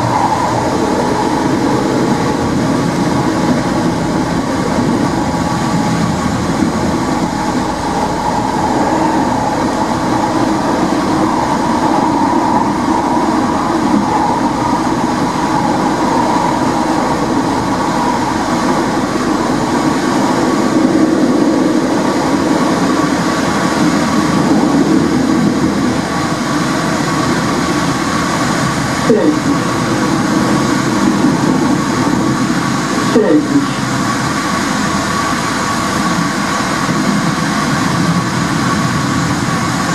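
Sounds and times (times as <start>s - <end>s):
steady hum: 0.0s - 39.9s
wheels rumbling on rail: 0.0s - 39.9s.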